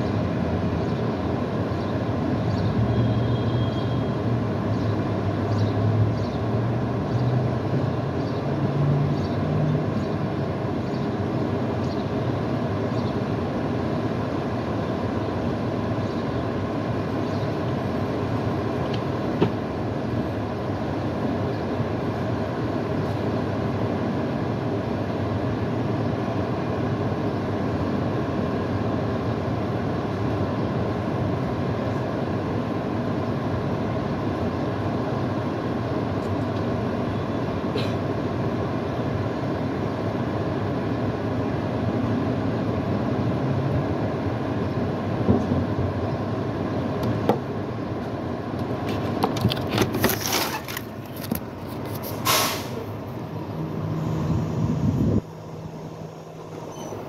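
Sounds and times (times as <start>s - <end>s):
engine rumbling: 0.0s - 57.0s.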